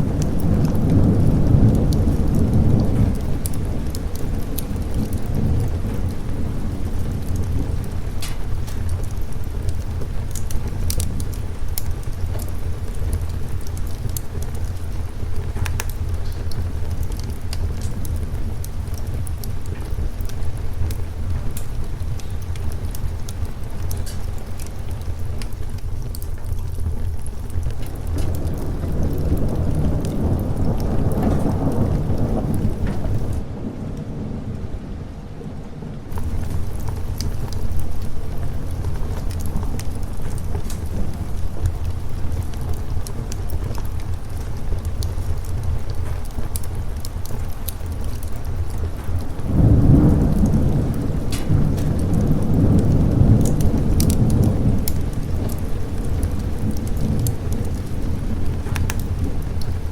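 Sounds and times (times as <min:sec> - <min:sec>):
sharp crackles: 0:00.0 - 0:33.4, 0:36.1 - 0:59.9
rolling thunder: 0:00.0 - 0:59.9
steady rain: 0:00.0 - 0:59.9.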